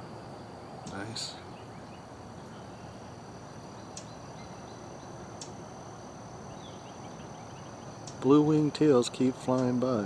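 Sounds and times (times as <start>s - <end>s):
high insect trill: 0.0s - 10.0s
low outdoor hiss: 0.0s - 10.0s.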